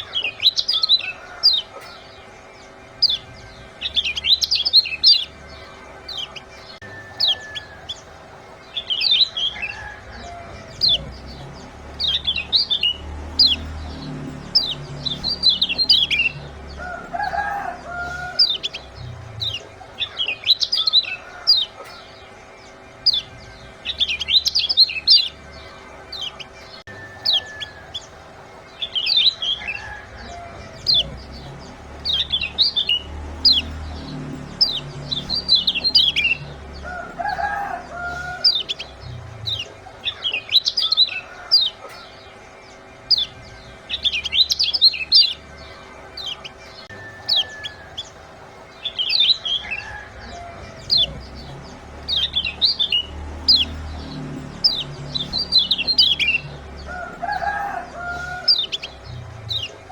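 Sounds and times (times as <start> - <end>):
bird giving high chirps: 0.0 - 59.9.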